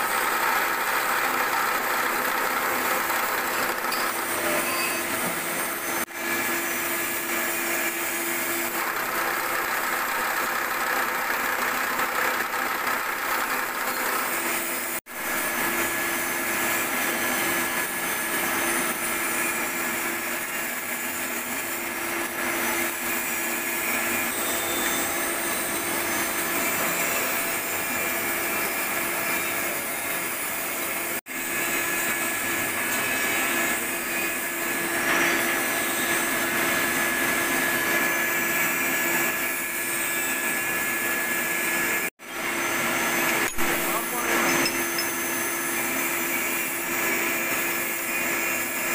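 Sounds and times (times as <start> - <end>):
milling machine whining and cutting: 0.0 - 48.9.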